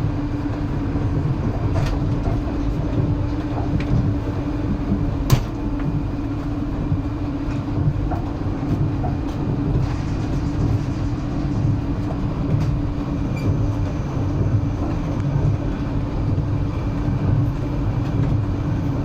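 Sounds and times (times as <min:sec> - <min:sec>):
constant hum: 0:00.0 - 0:19.0
train wheels rumbling on rails: 0:00.0 - 0:19.0.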